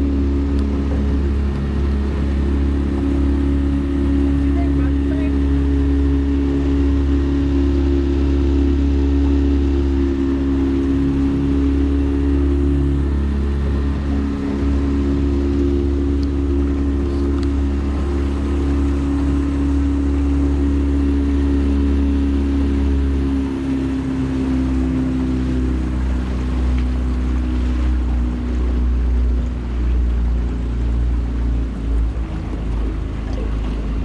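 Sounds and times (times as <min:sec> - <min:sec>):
outboard motor running: 0:00.0 - 0:34.0
wind and water rumble: 0:00.0 - 0:34.0.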